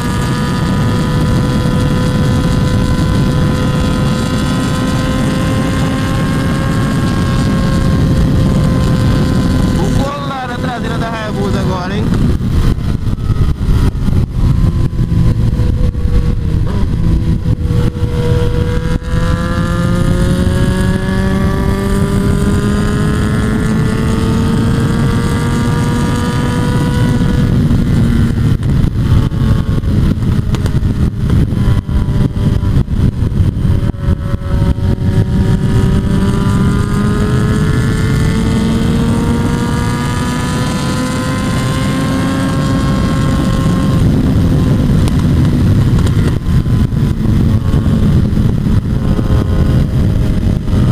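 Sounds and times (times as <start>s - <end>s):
motorcycle engine running hard: 0.0s - 50.9s
wind noise: 0.0s - 50.9s.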